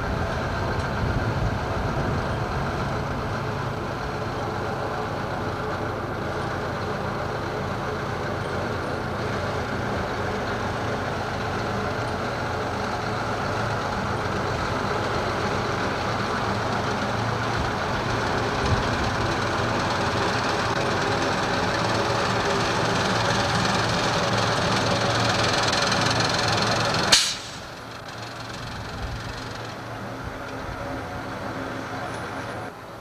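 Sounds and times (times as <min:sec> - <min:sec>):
tractor engine running: 0:00.0 - 0:33.0
truck engine running: 0:00.0 - 0:33.0.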